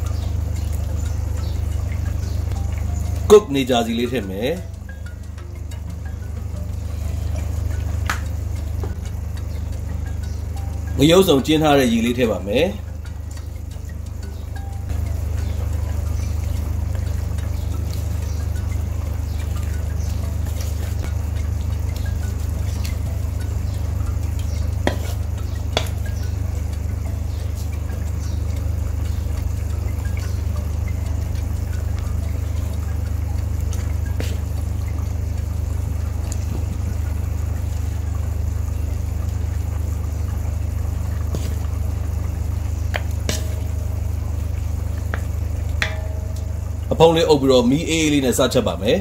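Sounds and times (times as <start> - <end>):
spatula tapping pan: 0.0 - 35.4, 42.9 - 46.8
steady low hum: 0.0 - 49.0.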